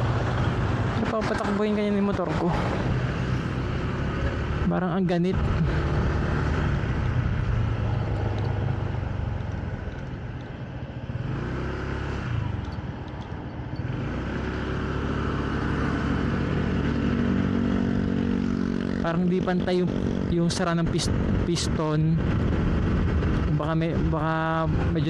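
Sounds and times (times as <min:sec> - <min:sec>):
road and wind noise: 0:00.0 - 0:25.0
motorcycle engine running: 0:03.1 - 0:25.0.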